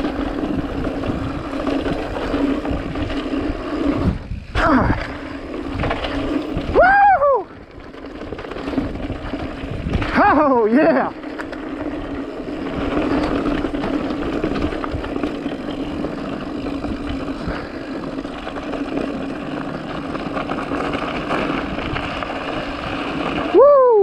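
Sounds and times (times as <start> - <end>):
bike rolling and rattling: 0.0 - 24.0.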